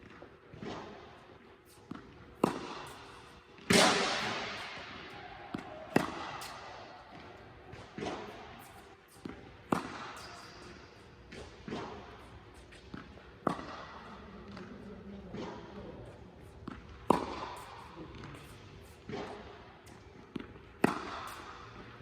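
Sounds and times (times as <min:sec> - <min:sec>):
racquet striking tennis ball: 0:00.0 - 0:22.0
tennis ball bouncing: 0:00.0 - 0:22.0.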